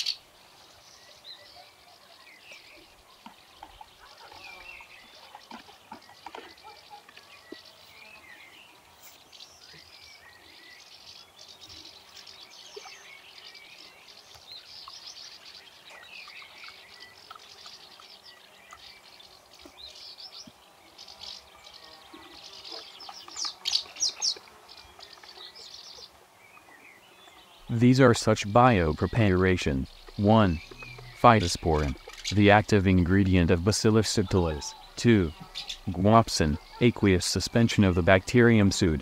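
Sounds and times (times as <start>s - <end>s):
birds chirping and singing: 0.0s - 39.0s.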